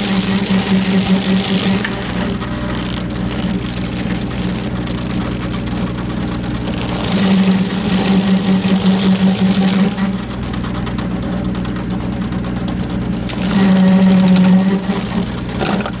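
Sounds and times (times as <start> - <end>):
stump grinder engine running: 0.0 - 16.0.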